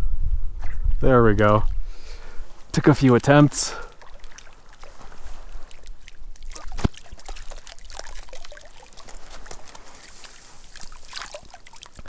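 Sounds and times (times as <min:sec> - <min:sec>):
water splashing and trickling: 0:02.3 - 0:12.0.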